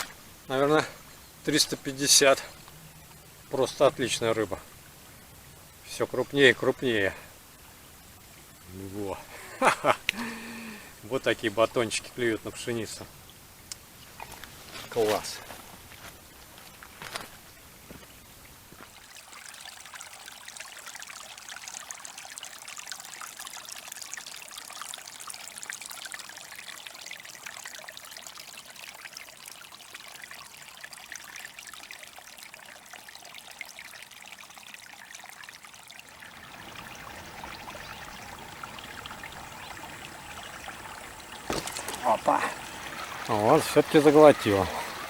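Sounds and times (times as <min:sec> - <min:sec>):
river water trickling and lapping: 0:00.0 - 0:45.0.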